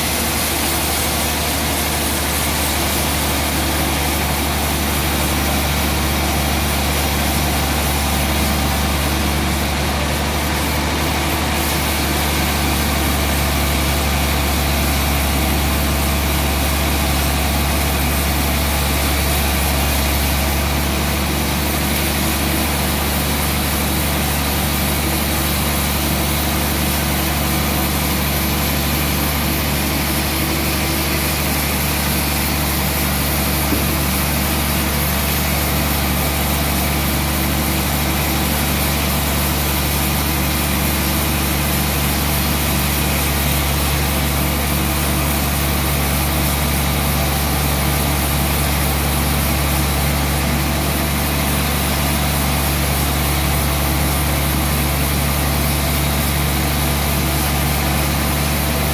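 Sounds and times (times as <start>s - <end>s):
sawmill machine drone: 0.0s - 58.9s.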